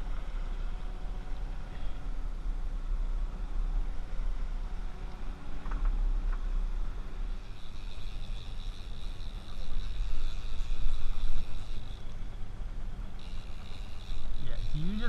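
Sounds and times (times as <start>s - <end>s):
faint high whine: 0.0s - 15.0s
outboard motors running: 0.0s - 15.0s.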